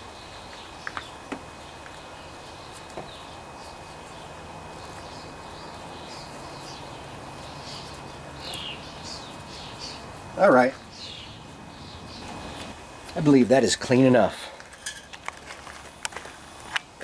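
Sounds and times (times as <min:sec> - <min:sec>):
birds chirping faintly: 0:00.0 - 0:15.3
steady low hum: 0:00.0 - 0:17.0.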